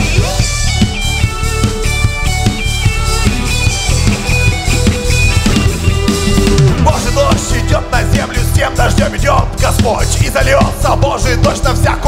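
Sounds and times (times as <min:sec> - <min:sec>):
electric guitars playing melody: 0:00.0 - 0:11.1
bass guitar: 0:00.0 - 0:12.0
drum kit beat: 0:00.0 - 0:12.0.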